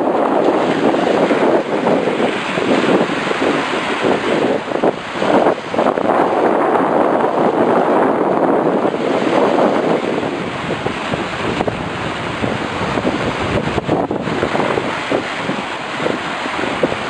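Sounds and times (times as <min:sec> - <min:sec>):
sea waves: 0:00.0 - 0:17.0
wind buffeting microphone: 0:00.0 - 0:17.0.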